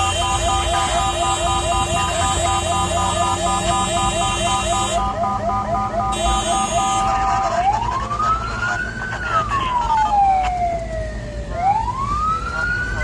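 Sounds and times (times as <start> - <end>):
ambulance siren wailing: 0.0 - 13.0
engine and road rumble: 0.0 - 13.0.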